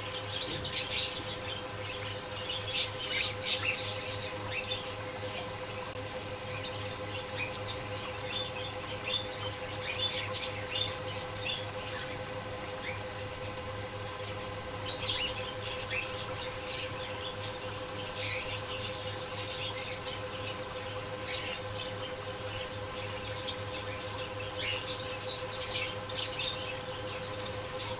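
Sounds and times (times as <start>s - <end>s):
small birds chirping: 0.0s - 27.9s
steady hum: 0.0s - 27.9s.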